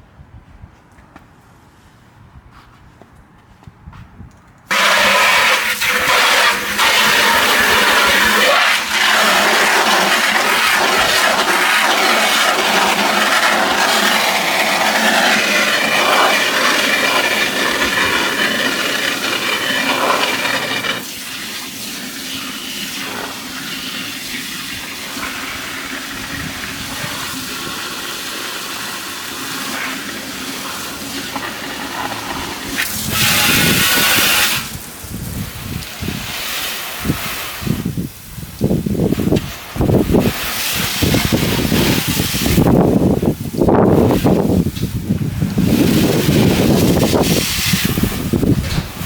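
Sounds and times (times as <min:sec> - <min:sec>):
water spraying onto truck: 0:04.7 - 0:49.0.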